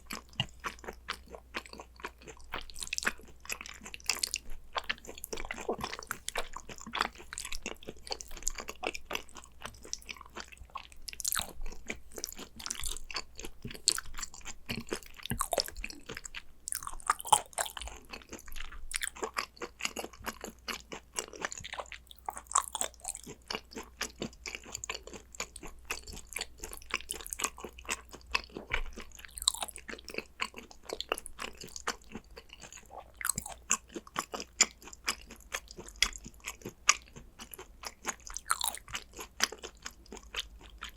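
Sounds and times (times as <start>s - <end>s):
chewing mouth clicks: 0.1s - 40.9s.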